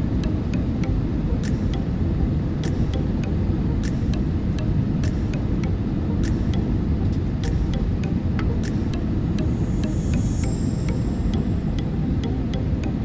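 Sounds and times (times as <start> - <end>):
aircraft cabin engine drone: 0.0 - 13.0.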